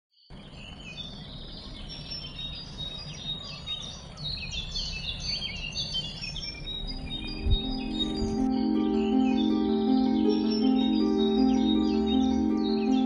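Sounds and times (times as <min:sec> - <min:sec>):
songbirds chirping and singing: 0:00.2 - 0:13.0.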